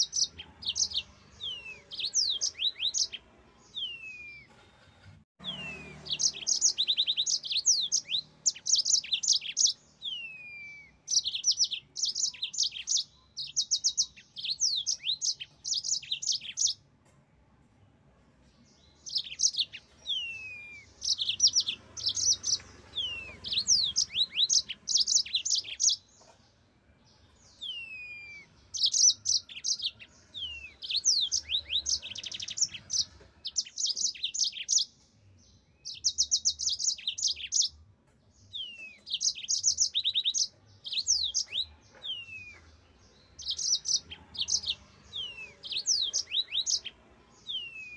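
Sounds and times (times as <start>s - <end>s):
canary singing trills: 0.0s - 4.5s, 5.4s - 16.8s, 18.8s - 37.8s, 38.4s - 47.9s.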